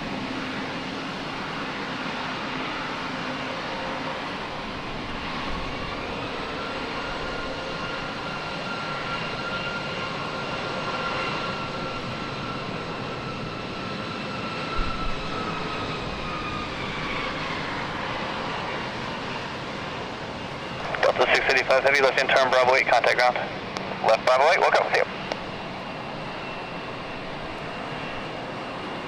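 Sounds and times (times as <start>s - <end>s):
jet engine roar: 0.0s - 29.0s
jet engine whine: 0.0s - 29.0s.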